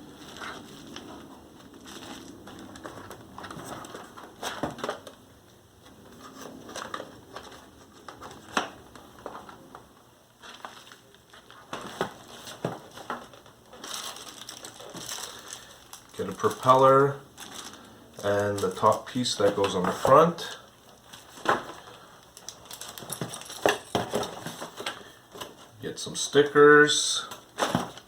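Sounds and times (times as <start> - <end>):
plastic packaging crinkling: 0.0 - 5.2, 6.1 - 25.7.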